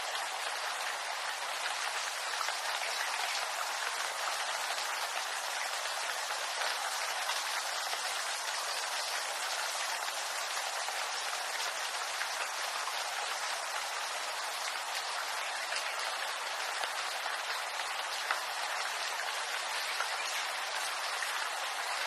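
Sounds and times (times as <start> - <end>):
rain falling on bamboo: 0.0 - 22.0.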